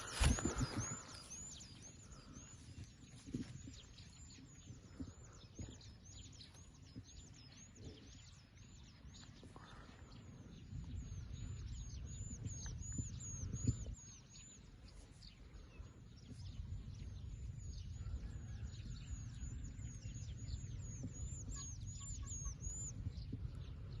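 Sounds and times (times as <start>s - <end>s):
small bird chirping: 0.0s - 17.7s, 18.4s - 23.5s.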